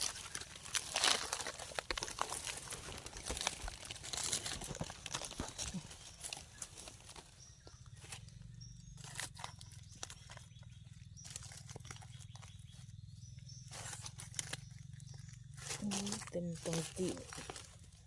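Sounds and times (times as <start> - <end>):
soil and forest litter scraping: 0.0 - 18.0.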